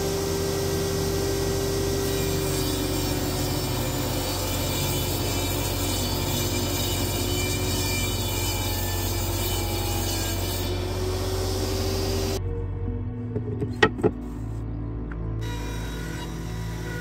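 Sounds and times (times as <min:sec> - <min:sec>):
electric wood planer running: 0:00.0 - 0:12.4, 0:15.4 - 0:17.0.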